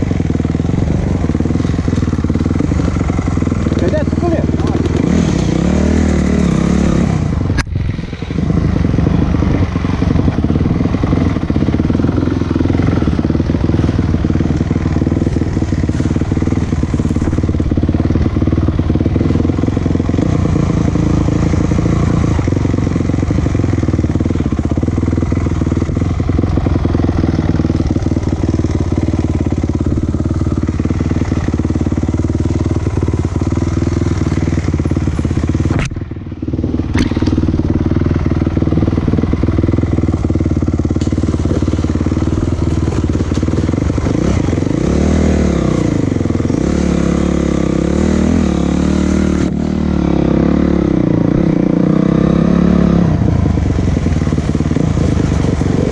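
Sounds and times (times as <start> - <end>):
motor vehicle engine running: 0.0 - 55.9.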